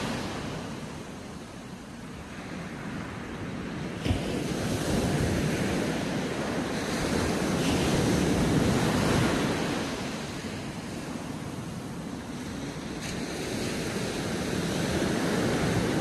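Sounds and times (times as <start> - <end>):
surf breaking on beach: 0.0 - 16.0
wind on microphone: 0.0 - 16.0.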